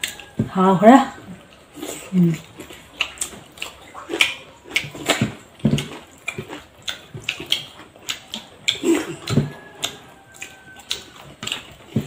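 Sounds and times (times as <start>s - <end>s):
wet chewing and lip-smacking: 0.0s - 0.4s, 1.2s - 12.0s.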